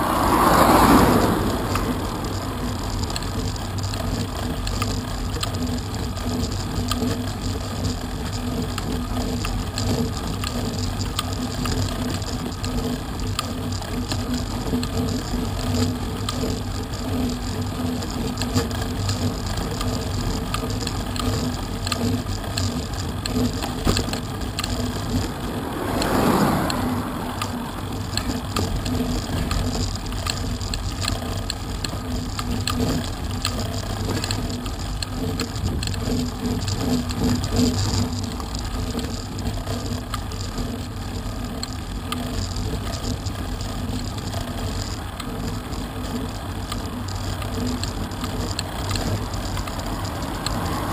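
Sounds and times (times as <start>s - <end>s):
bicycle tyre rolling on tarmac: 0.0s - 50.9s.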